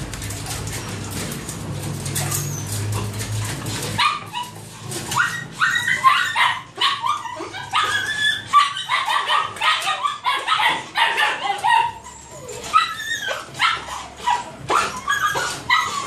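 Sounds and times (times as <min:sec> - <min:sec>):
small dogs whining and yipping: 0:02.1 - 0:16.0.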